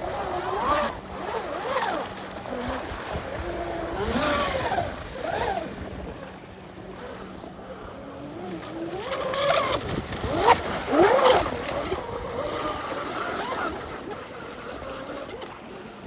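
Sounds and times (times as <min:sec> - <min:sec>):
electric motor whining: 0:00.0 - 0:16.0
surf: 0:00.0 - 0:16.0
wind: 0:00.0 - 0:16.0.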